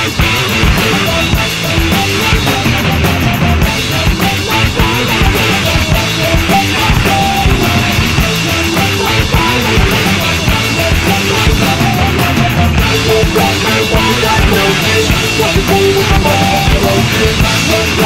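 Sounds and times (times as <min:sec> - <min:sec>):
rock music with drums and guitar: 0:00.0 - 0:18.0.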